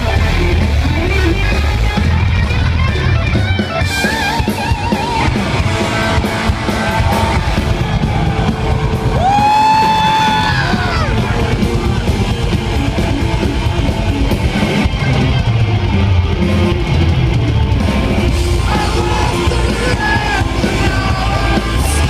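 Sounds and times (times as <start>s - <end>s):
electric guitar lead: 0.0s - 22.0s
live rock band: 0.0s - 22.0s.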